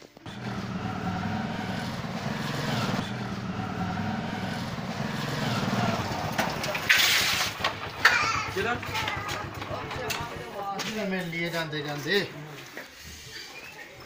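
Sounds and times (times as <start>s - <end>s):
motorcycle engine passing: 0.0s - 12.4s.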